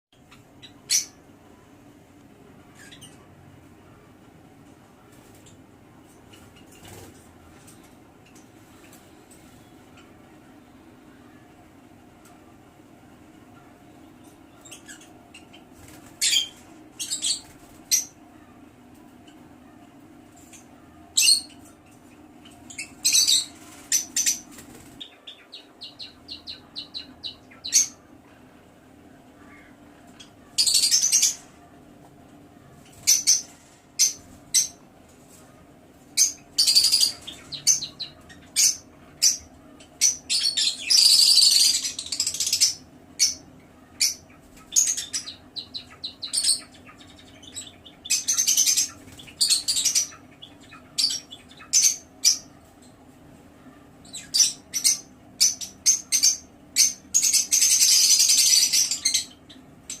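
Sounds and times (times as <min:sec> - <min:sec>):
lovebirds chirping and chattering: 0:00.2 - 1:00.0.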